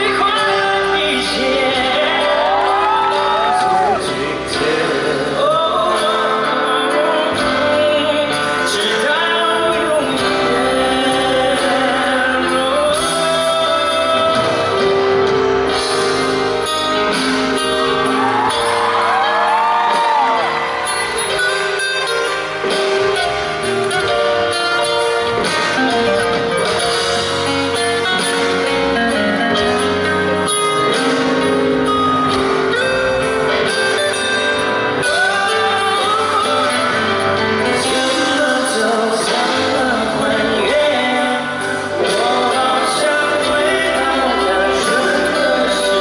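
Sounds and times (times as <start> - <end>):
live pop band with singing: 0.0 - 46.0.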